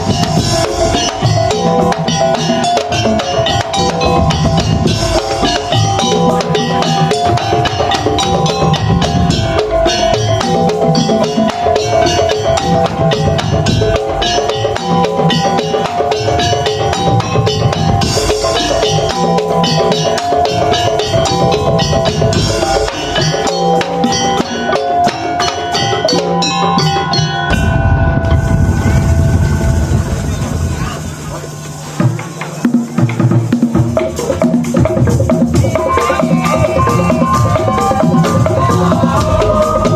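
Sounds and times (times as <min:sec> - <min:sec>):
melodic line: 0:00.0 - 0:32.4
drums and wooden percussion: 0:00.0 - 0:39.9.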